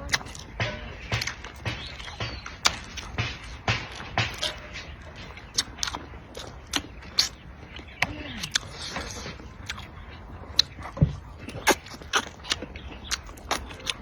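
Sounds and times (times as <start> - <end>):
wet chewing and sucking: 0.0 - 14.0.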